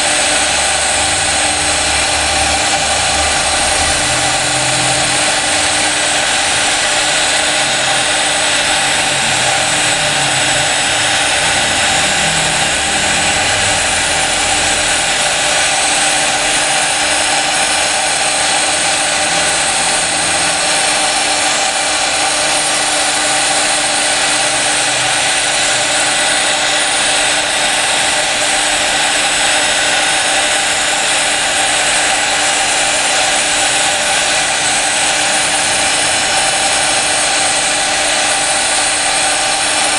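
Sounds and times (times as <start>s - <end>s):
cnc router spindle engraving glass: 0.0s - 39.9s.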